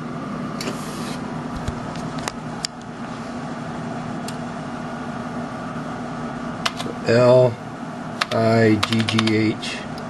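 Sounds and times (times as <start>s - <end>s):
equipment humming: 0.0s - 10.0s.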